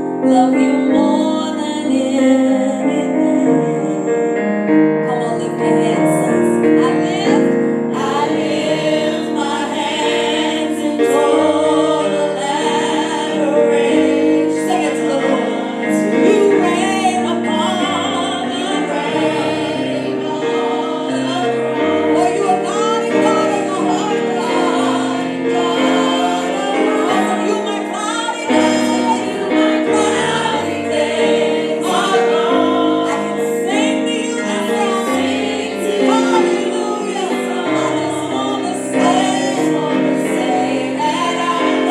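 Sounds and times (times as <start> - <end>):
choir singing gospel: 0.0 - 41.9
sustained keyboard chords: 0.0 - 41.9.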